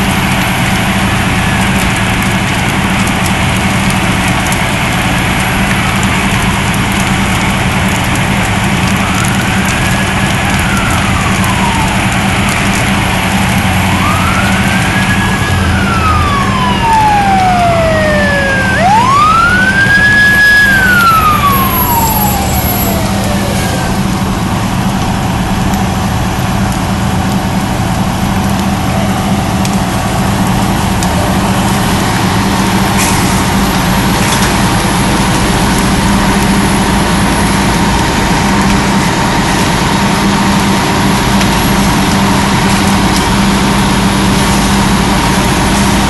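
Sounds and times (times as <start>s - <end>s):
fire engine siren wailing: 0.0s - 46.0s
low engine drone: 0.0s - 46.0s.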